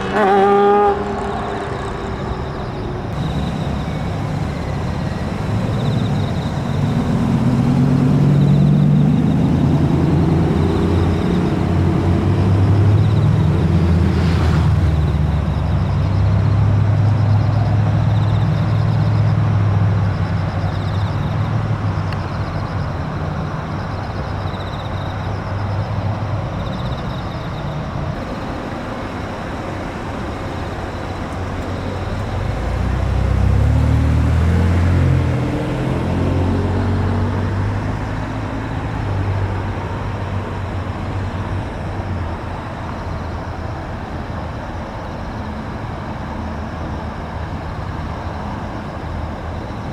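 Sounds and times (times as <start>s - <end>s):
car accelerating away: 0.0s - 49.9s
car engines rumbling: 0.0s - 49.9s
steady traffic noise: 0.0s - 49.9s.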